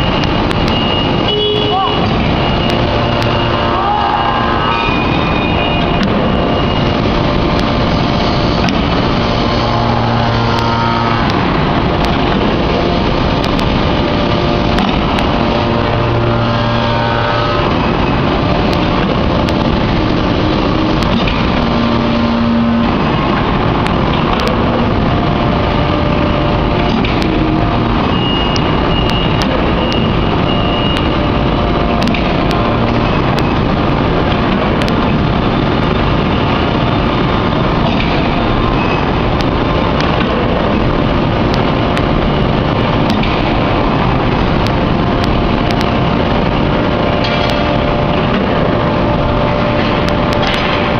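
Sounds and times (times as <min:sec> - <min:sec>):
forging press machinery noise: 0:00.0 - 0:50.9
machine hum: 0:00.0 - 0:50.9.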